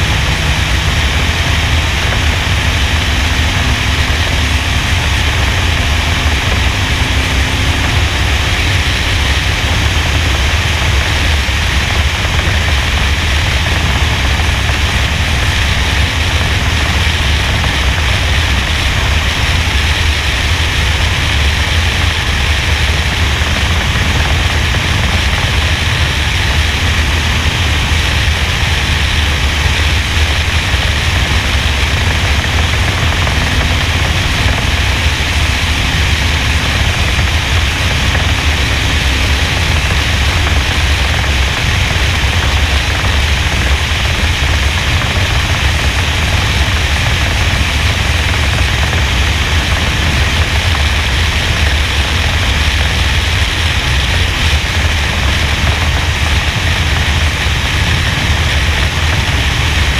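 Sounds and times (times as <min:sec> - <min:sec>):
race car engine: 0:00.0 - 0:59.9
wind rushing: 0:00.0 - 0:59.9.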